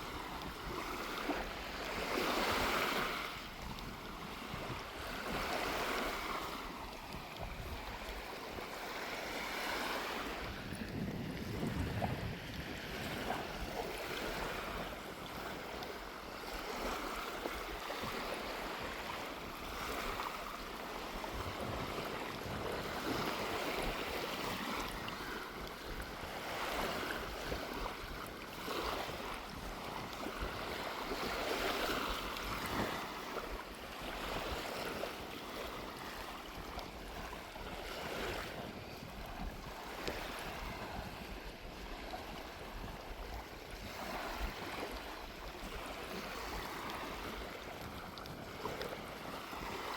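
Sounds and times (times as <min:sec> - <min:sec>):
small waves breaking on sand: 0:00.0 - 0:49.9
wind rumbling on microphone: 0:00.0 - 0:49.9.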